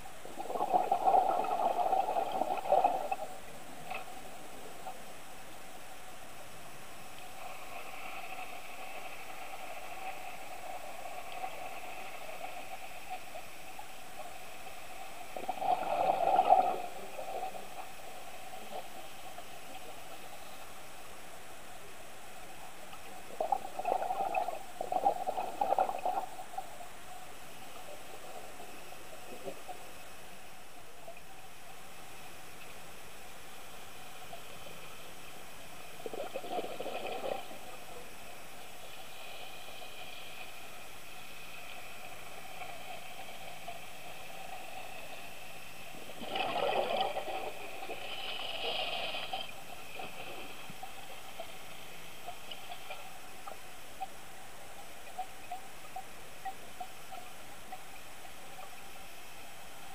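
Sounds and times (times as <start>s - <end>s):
underwater bubbles gurgling: 0.0s - 5.6s, 7.0s - 21.0s, 21.8s - 30.3s, 32.5s - 59.9s
underwater hiss: 0.2s - 30.4s, 31.7s - 55.2s.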